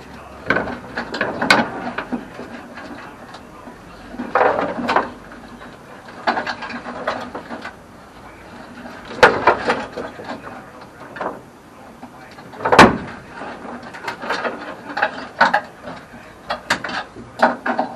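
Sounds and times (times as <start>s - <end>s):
metal clattering: 0.0s - 11.5s, 12.1s - 17.9s.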